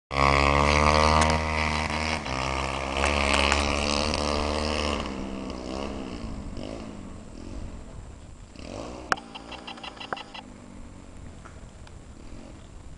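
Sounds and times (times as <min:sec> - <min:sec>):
dirt bike engine running: 0:00.1 - 0:12.9.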